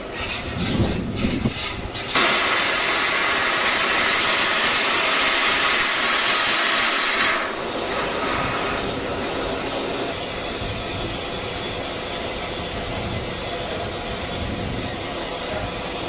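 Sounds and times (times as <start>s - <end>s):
locomotive blowing off steam: 0.0s - 16.0s.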